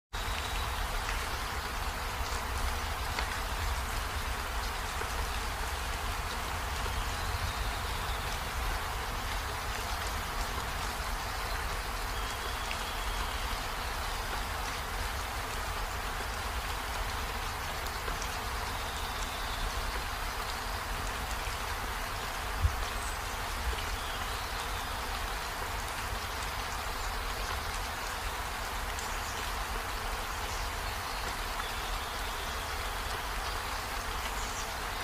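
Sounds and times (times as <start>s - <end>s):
steady rain hiss: 0.2s - 35.0s.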